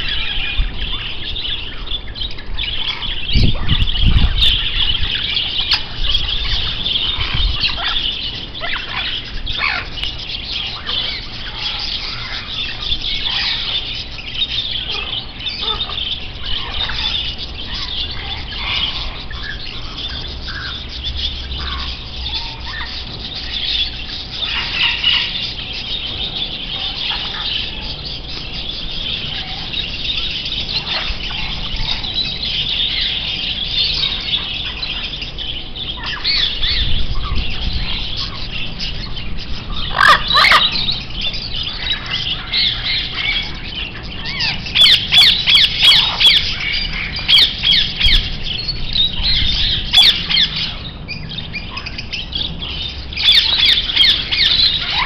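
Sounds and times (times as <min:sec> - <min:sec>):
budgerigars chattering and chirping: 0:00.0 - 0:55.0
parrots squawking: 0:02.6 - 0:55.0.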